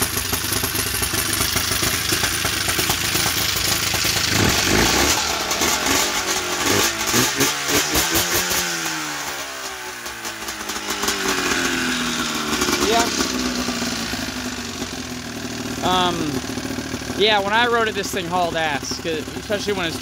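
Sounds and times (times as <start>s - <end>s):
snowmobile engine revving: 2.8s - 20.0s.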